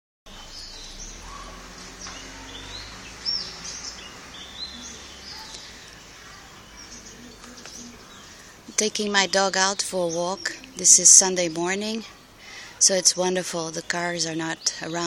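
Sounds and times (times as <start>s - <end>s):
birds chirping and calling: 0.3s - 15.0s
faint low background hum: 0.3s - 15.0s.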